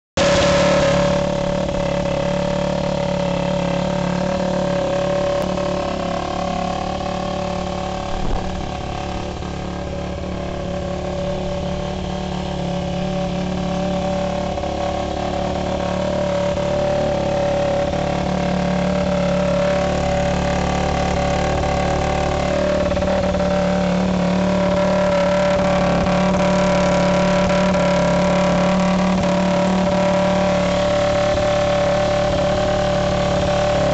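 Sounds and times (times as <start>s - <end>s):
motorcycle engine idling: 0.2s - 33.9s.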